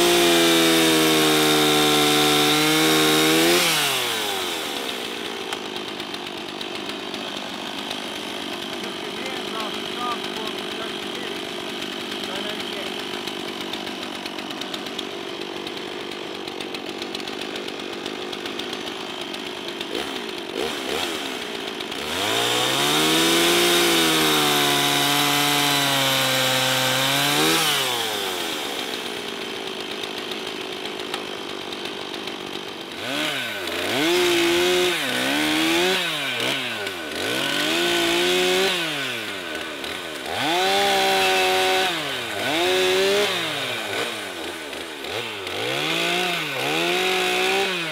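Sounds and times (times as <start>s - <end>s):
chainsaw idling and revving: 0.0s - 47.9s.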